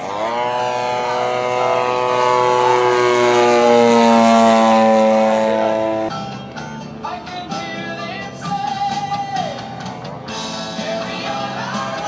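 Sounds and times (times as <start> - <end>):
model airplane engine flying past: 0.0 - 12.0.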